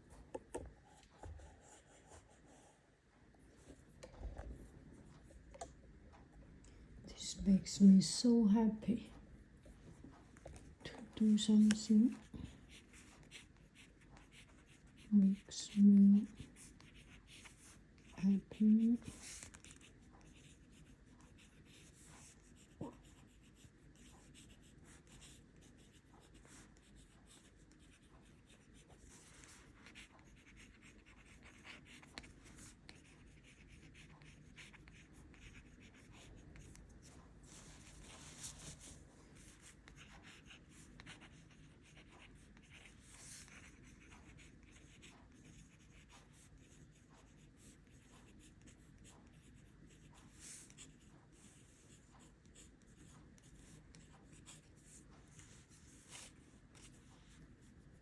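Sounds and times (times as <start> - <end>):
pen scratching on paper: 11.0 - 58.0.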